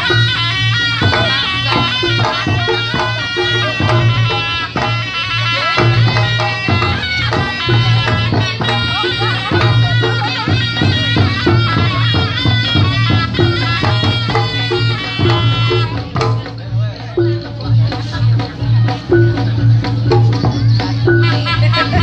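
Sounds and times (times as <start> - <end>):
drum strokes: 0.0 - 22.0
nasal shawm melody: 0.0 - 22.0.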